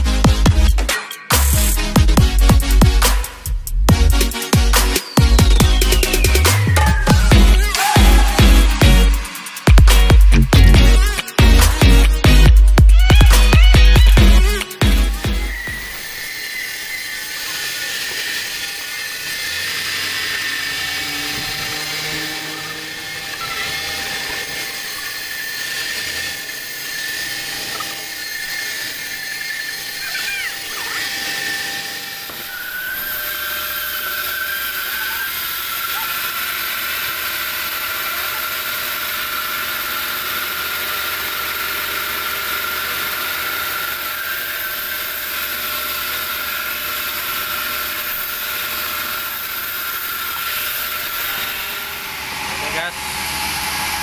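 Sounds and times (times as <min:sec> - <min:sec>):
band saw cutting log: 0:00.6 - 0:54.0.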